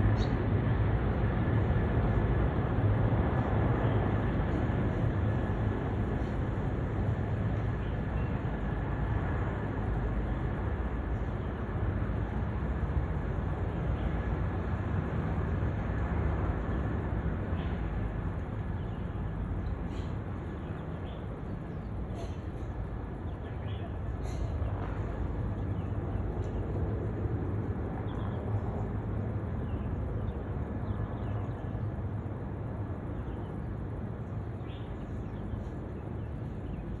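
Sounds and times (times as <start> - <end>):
helicopter flying overhead: 0.0 - 37.0.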